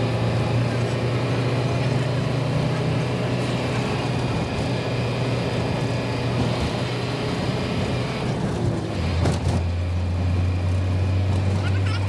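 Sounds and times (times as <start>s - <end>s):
bus engine droning: 0.0s - 12.0s
road and tyre noise: 0.0s - 12.0s.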